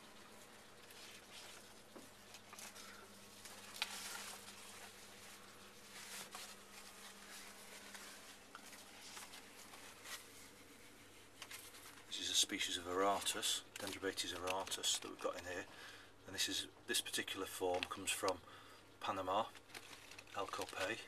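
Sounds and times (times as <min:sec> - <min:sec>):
faint irregular clicks and rustles: 0:00.0 - 0:21.0
steady low hum: 0:00.0 - 0:21.0.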